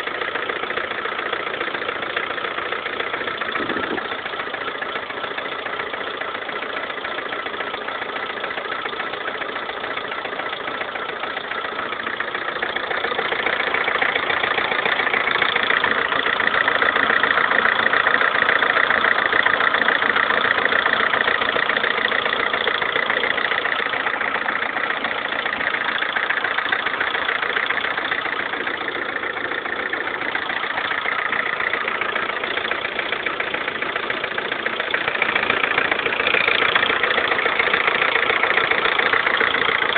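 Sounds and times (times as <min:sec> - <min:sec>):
car engine knocking and rattling: 0:00.0 - 0:39.9.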